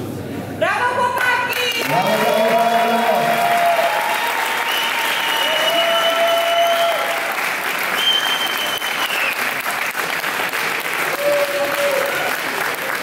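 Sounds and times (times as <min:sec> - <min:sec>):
crowd applauding: 0:01.5 - 0:13.0.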